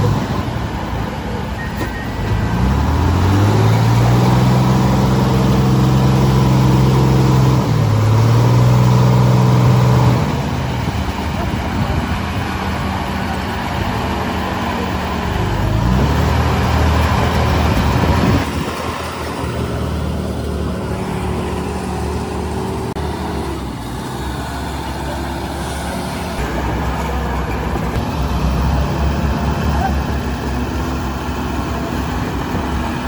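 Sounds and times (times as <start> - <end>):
heavy diesel engine revving: 0.0 - 33.0.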